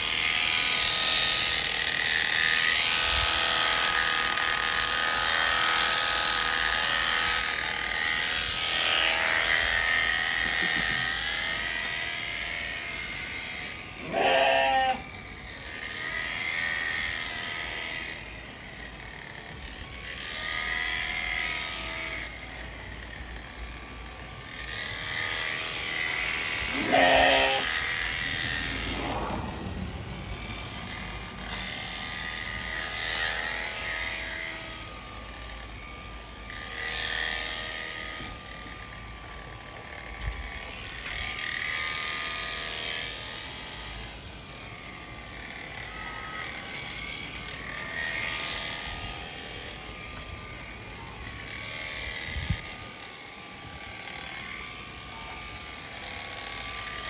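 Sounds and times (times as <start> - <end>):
clippers rasping through fleece: 0.0 - 57.0
electric clippers whining: 0.0 - 57.0.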